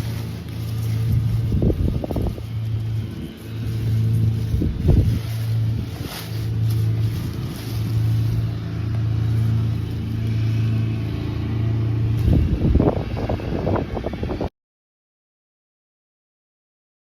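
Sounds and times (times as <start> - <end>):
lawn mower engine running: 0.0 - 14.5.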